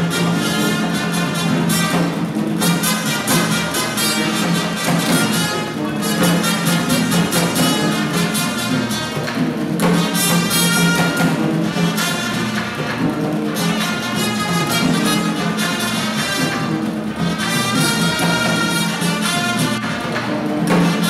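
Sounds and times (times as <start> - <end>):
brass music: 0.0 - 21.0.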